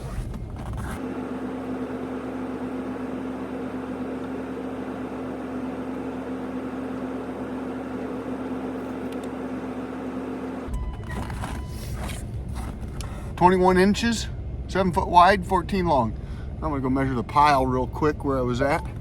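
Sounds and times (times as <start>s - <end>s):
tractor engine idling: 1.2s - 19.0s.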